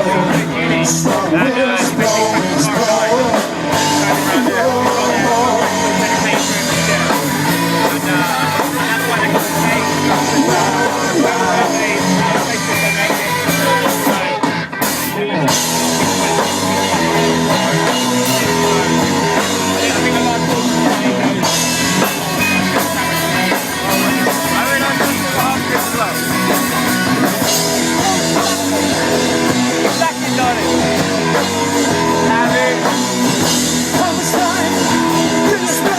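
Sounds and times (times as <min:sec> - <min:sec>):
drum kit: 0:00.0 - 0:35.9
electric guitar: 0:00.0 - 0:35.9
rock band playing: 0:00.0 - 0:35.9.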